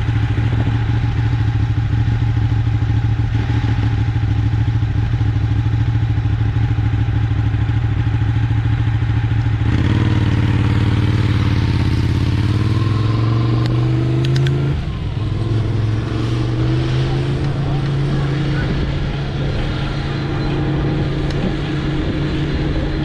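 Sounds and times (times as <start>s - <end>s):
electric bike riding hum: 0.0s - 13.0s, 13.7s - 23.0s.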